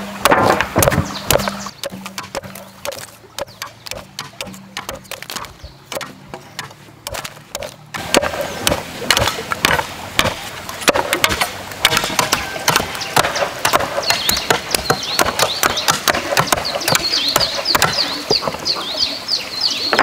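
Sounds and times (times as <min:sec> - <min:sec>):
blade chopping wood: 0:00.0 - 0:18.6.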